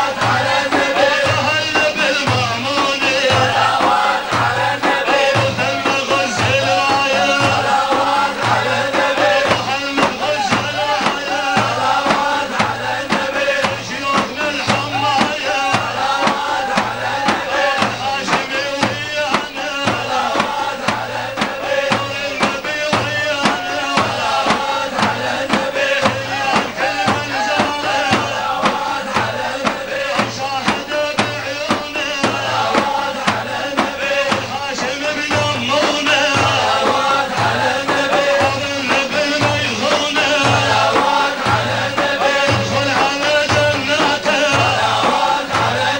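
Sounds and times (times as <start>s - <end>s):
male voices chanting: 0.0s - 45.9s
steady drum beat: 0.0s - 45.9s.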